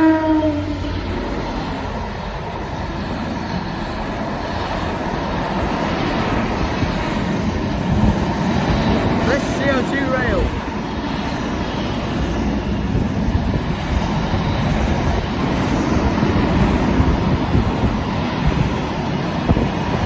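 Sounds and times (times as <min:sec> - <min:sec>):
train wagons rumbling past: 0:00.0 - 0:20.0
wind buffeting microphone: 0:00.0 - 0:20.0.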